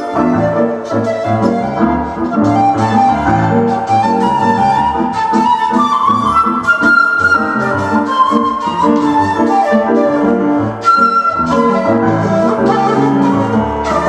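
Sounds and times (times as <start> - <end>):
bamboo flute melody: 0.0 - 14.0
piano chords: 0.0 - 14.0.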